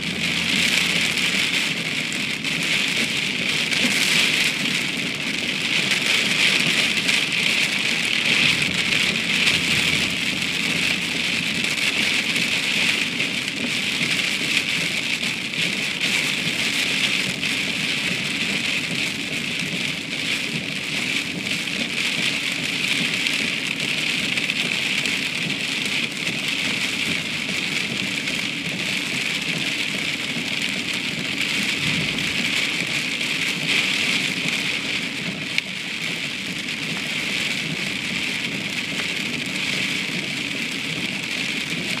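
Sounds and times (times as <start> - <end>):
rain on a car roof: 0.0 - 42.0.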